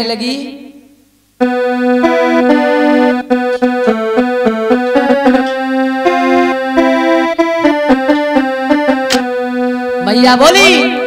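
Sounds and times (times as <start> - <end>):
keyboard playing held chords: 1.4 - 11.0.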